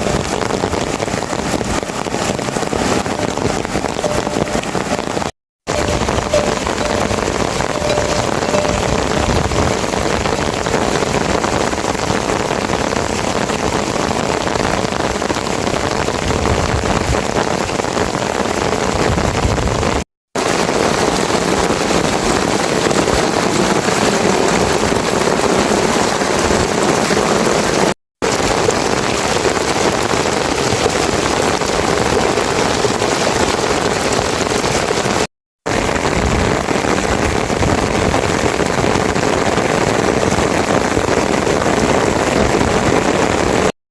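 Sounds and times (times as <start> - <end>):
heavy rain falling: 0.0 - 43.8.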